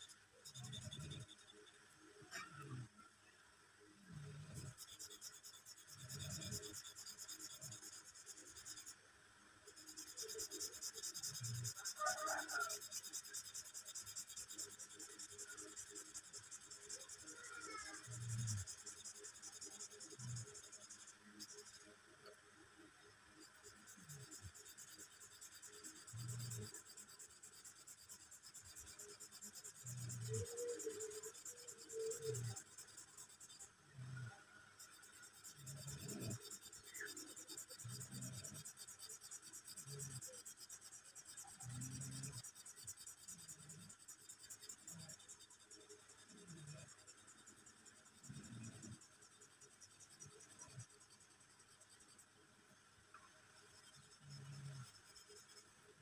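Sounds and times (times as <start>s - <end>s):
pen scratching on paper: 0.4s - 1.7s, 4.4s - 8.9s, 9.7s - 21.9s, 23.4s - 33.7s, 34.8s - 52.2s, 53.6s - 55.7s.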